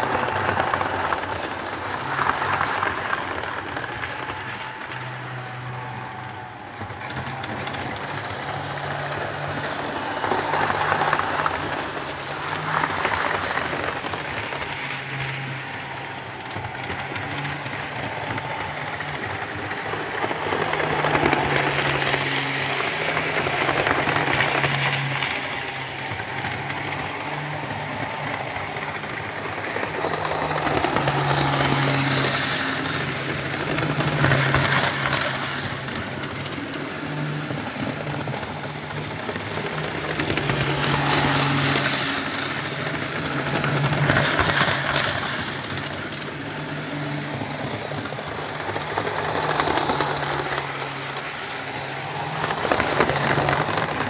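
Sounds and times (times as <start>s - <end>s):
model train wheels rattling on rails: 0.0s - 54.0s.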